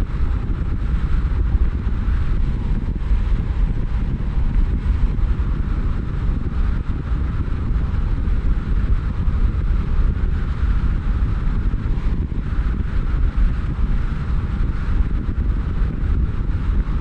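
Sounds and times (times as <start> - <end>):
car driving rumble: 0.0 - 17.0
road and wind noise: 0.0 - 17.0.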